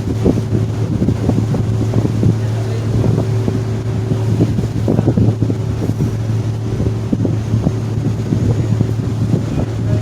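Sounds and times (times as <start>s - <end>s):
irregular rumble: 0.0s - 10.0s.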